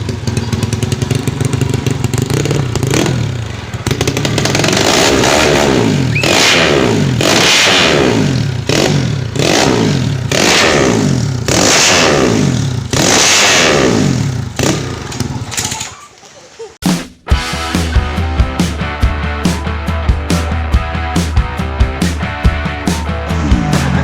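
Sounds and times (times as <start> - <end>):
motorcycle engine revving: 0.0 - 15.8, 20.1 - 24.0.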